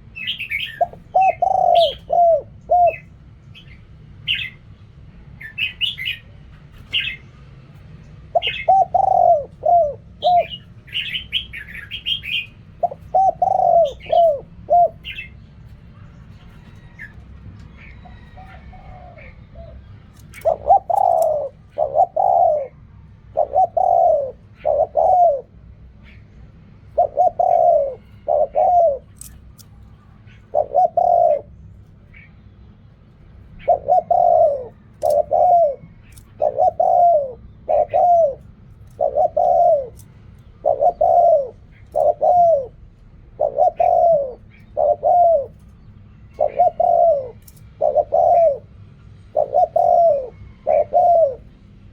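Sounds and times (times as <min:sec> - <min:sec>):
dove cooing: 0:00.0 - 0:04.6, 0:08.2 - 0:32.3, 0:33.4 - 0:51.9.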